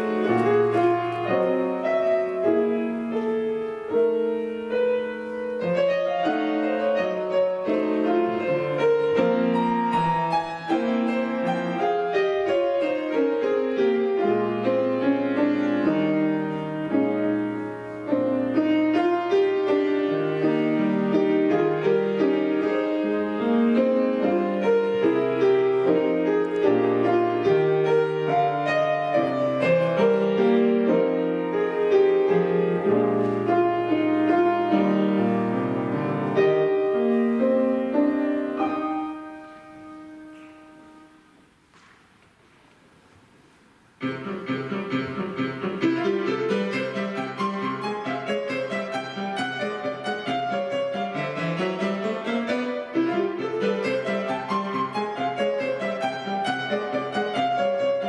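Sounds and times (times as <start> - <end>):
solo grand piano: 0.0 - 58.0.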